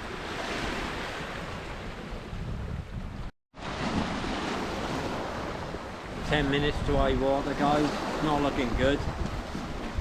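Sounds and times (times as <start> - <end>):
small waves washing on shore: 0.0 - 10.0
wind rumbling on microphone: 0.0 - 10.0.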